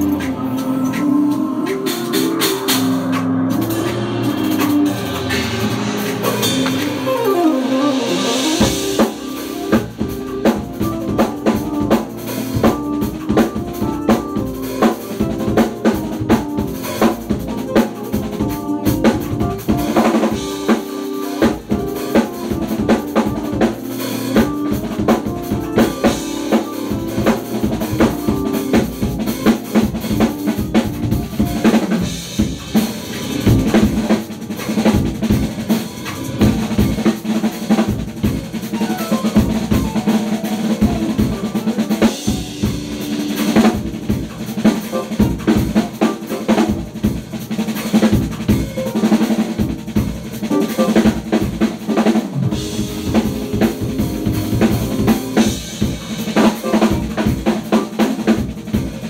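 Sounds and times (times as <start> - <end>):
drum-driven music: 0.0 - 59.0.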